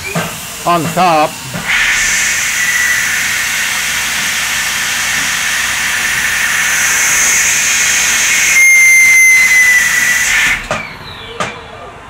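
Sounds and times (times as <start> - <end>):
air blast hiss: 0.0 - 10.8
milling machine cutting: 0.0 - 10.9
machine whine: 0.0 - 12.0.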